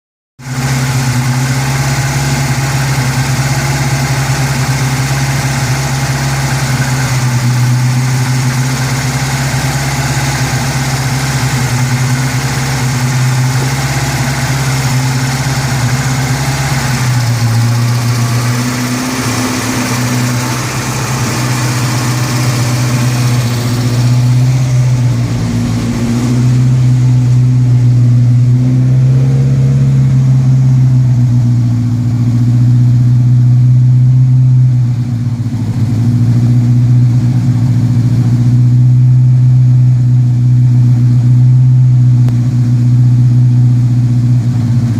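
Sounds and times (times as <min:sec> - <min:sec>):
engine humming steadily: 0:00.4 - 0:44.9.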